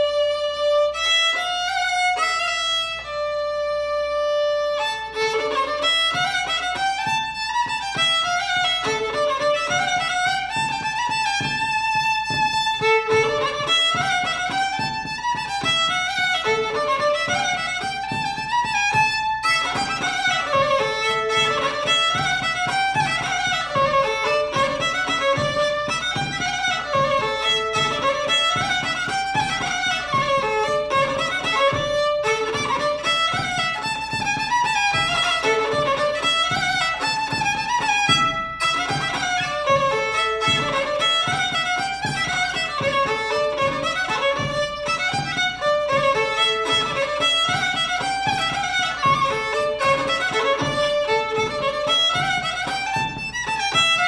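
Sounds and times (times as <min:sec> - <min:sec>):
solo fiddle playing: 0:00.0 - 0:54.0.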